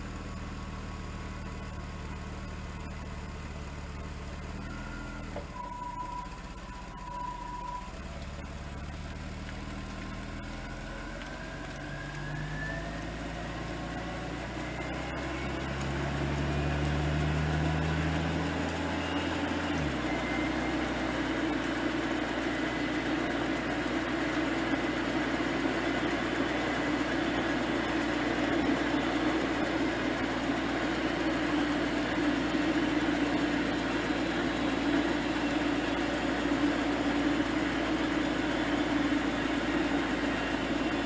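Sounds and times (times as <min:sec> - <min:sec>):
car engine whining: 0:00.0 - 0:41.0.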